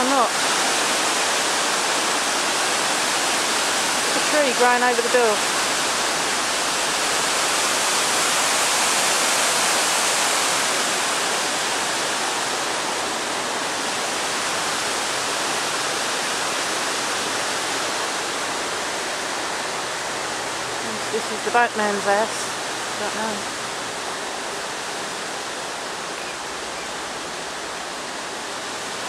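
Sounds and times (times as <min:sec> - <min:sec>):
fast-flowing water rushing: 0:00.0 - 0:29.0.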